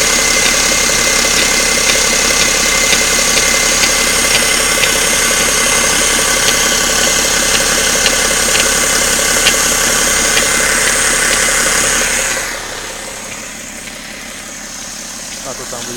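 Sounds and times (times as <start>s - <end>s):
diesel engine idling: 0.0s - 15.9s
engine knocking: 0.0s - 15.9s.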